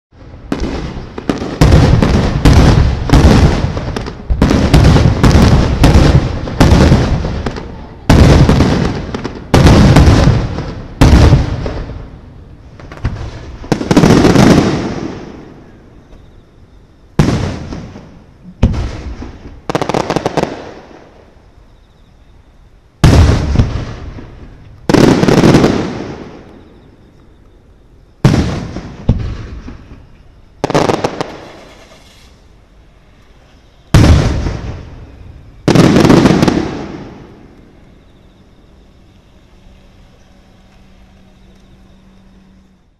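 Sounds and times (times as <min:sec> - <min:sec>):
fireworks booming with echo: 0:00.1 - 0:16.4, 0:17.1 - 0:21.5, 0:23.0 - 0:27.2, 0:28.1 - 0:39.7.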